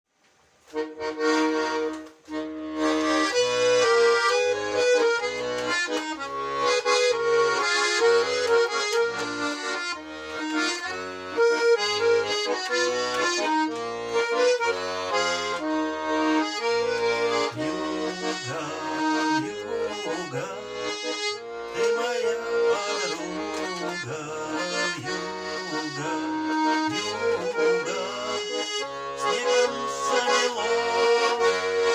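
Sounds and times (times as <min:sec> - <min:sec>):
accordion melody: 0:00.7 - 0:31.9.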